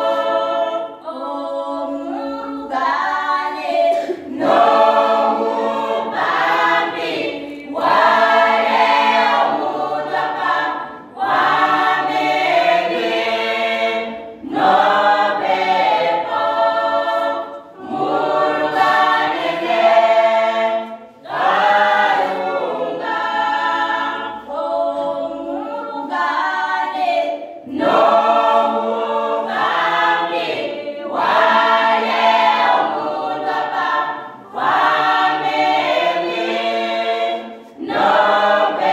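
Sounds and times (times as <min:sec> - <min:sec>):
choir singing a cappella: 0:00.0 - 0:38.9.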